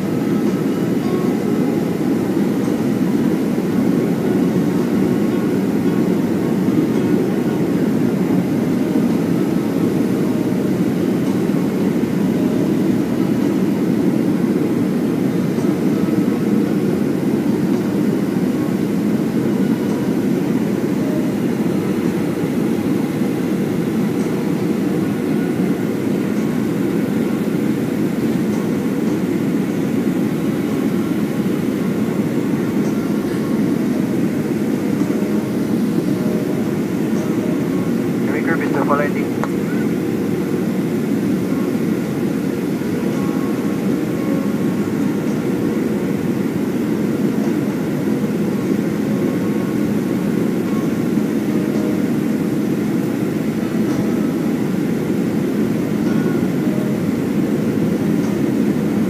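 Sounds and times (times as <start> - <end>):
airplane cabin engine rush: 0.0 - 59.0.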